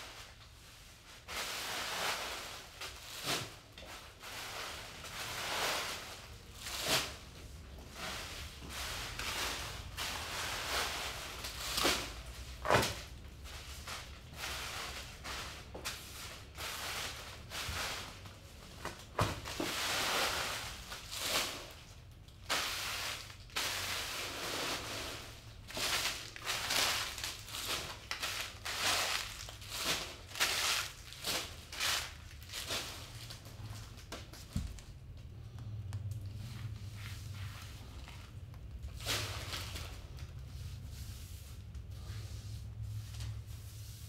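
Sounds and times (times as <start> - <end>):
wrappers crinkling and rustling: 0.0 - 35.3, 36.1 - 40.9.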